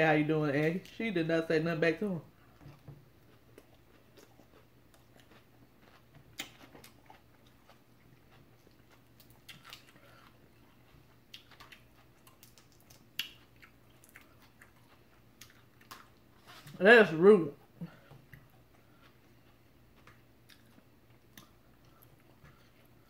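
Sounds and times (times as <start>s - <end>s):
faint low hum: 0.0s - 23.0s
chewing and wet mouth smacks: 2.5s - 16.4s, 18.1s - 23.0s.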